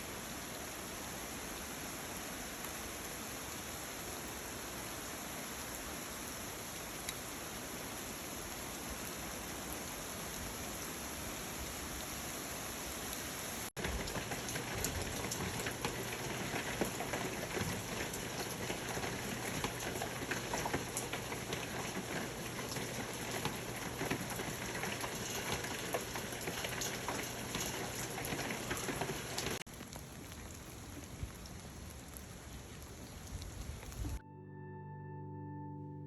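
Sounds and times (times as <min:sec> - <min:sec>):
raindrops striking a surface: 0:00.0 - 0:34.2
steady rain falling: 0:00.0 - 0:34.2.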